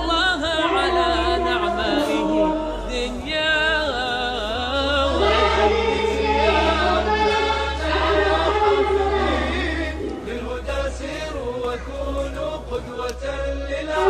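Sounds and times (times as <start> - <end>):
choir singing: 0.0 - 14.0
low steady drone: 0.0 - 14.0.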